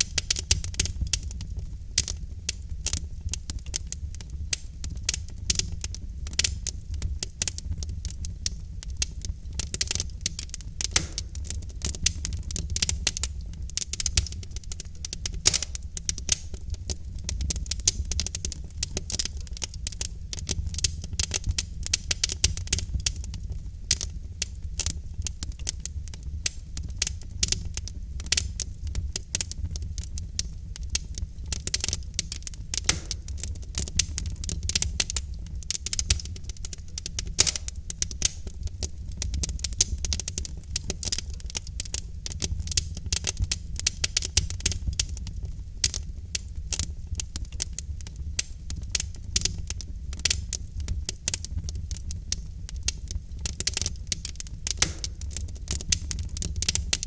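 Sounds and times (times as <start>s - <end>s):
fireplace wood fire crackling: 0.0s - 57.0s.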